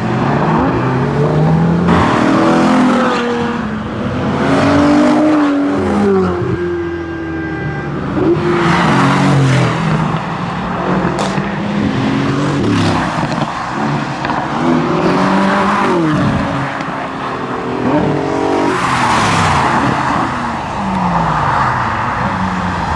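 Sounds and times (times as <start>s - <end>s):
rush of road noise: 0.0s - 22.9s
sports car engines accelerating: 0.0s - 22.9s.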